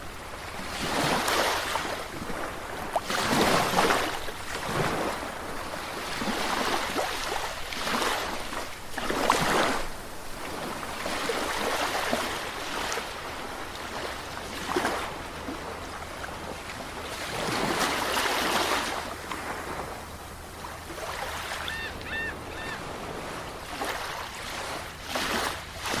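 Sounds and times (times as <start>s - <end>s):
sea waves breaking: 0.0s - 26.0s.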